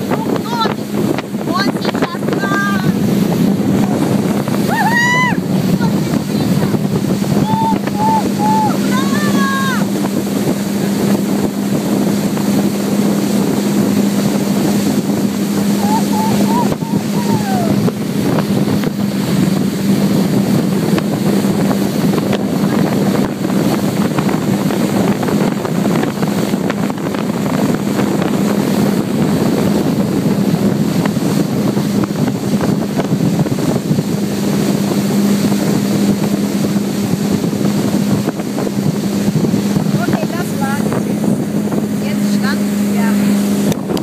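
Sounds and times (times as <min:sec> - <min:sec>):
boat engine low drone: 0:00.0 - 0:44.0
rushing wake water: 0:00.0 - 0:44.0
wind buffeting microphone: 0:00.0 - 0:44.0.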